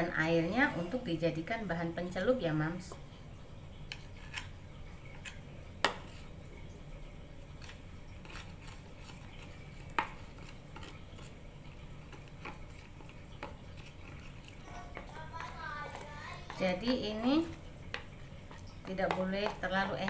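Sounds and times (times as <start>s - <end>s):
spoon stirring batter: 3.7s - 20.0s.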